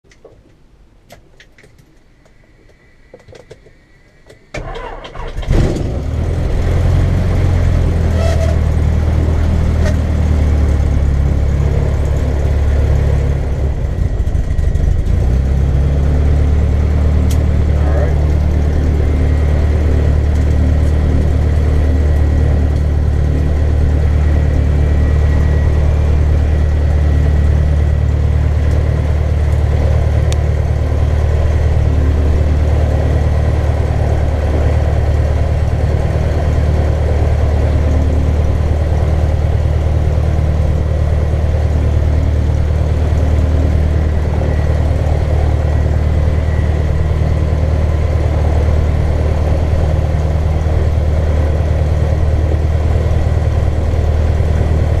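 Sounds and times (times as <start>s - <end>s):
aircraft engine and propeller idling: 4.6s - 55.0s.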